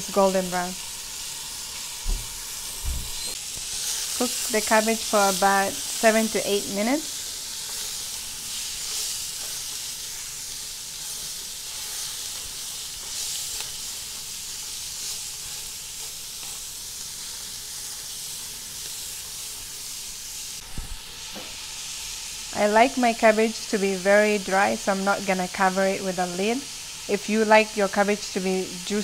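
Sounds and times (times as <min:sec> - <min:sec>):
cabbage sizzling in oil: 0:00.0 - 0:29.0.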